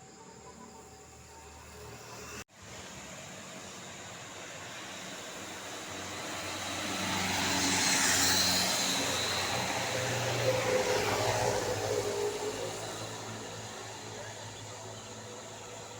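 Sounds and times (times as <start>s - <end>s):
vehicle passing by: 1.4s - 15.9s.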